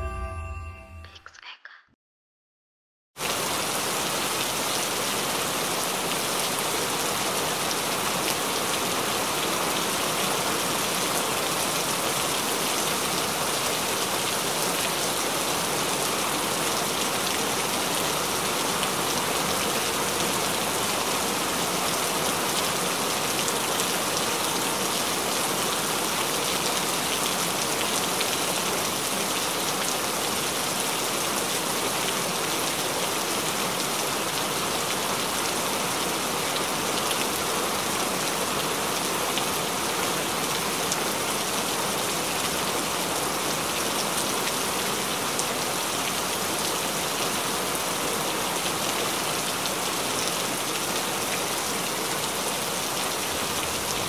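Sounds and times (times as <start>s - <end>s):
rain splashing on wet surface: 3.2s - 54.0s.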